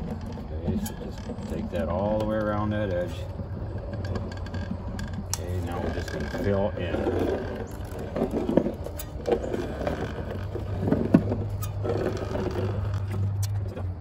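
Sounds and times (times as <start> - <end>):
caulking gun clicks and creaks: 0.0 - 14.0
steady low hum: 0.0 - 14.0.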